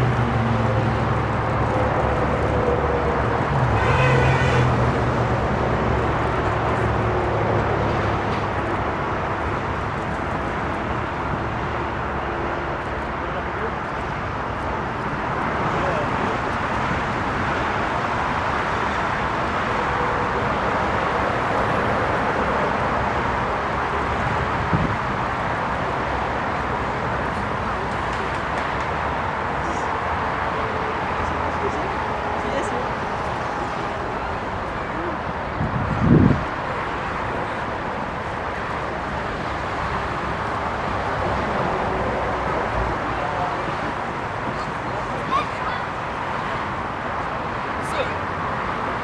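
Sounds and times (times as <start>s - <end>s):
turbofan engines roaring: 0.0s - 49.0s.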